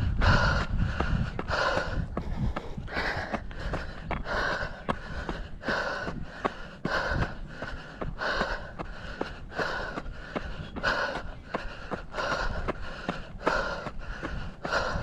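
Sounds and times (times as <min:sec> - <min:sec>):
runner breathing hard: 0:00.0 - 0:15.0.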